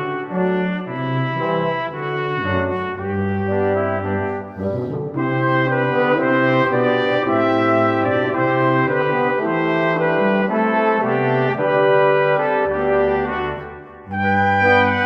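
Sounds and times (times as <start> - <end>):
horns holding chords: 0.0 - 15.0.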